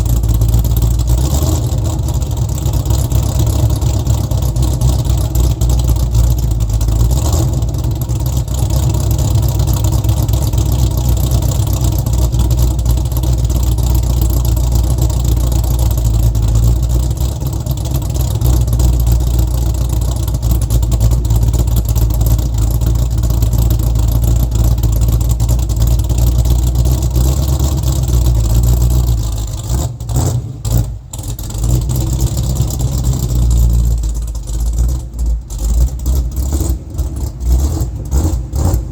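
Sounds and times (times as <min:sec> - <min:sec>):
engine running through exhaust: 0:00.0 - 0:38.9.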